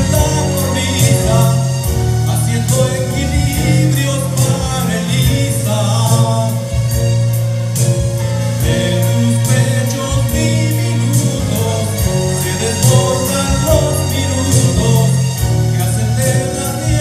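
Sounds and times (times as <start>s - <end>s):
karaoke backing track: 0.0s - 17.0s
man singing a ballad: 0.0s - 17.0s.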